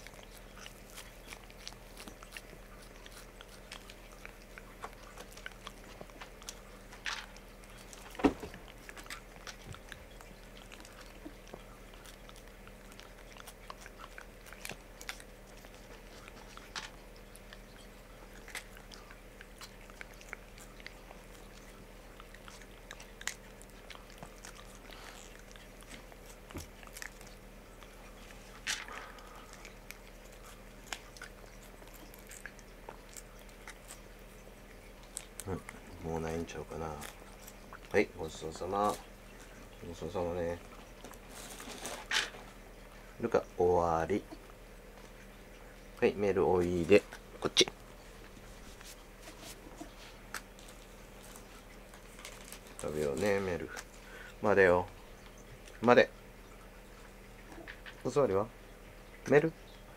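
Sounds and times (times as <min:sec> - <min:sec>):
cat licking: 0:00.0 - 0:57.9.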